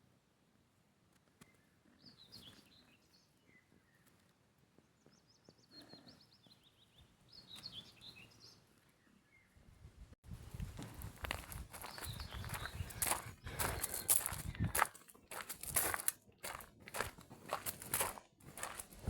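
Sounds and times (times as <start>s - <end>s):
songbirds chirping: 1.1s - 10.1s, 10.9s - 19.0s.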